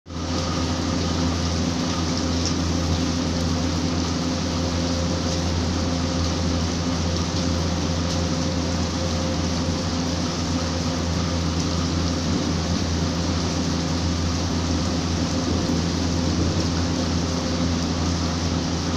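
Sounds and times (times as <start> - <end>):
low hum: 0.1 - 18.9
steady rain falling: 0.1 - 18.9.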